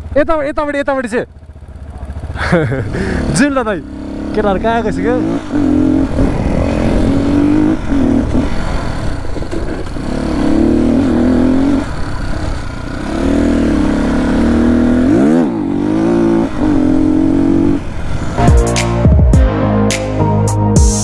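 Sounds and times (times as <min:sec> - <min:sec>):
dirt bike engine running: 0:00.0 - 0:19.4
dirt bike engine revving: 0:01.4 - 0:18.5.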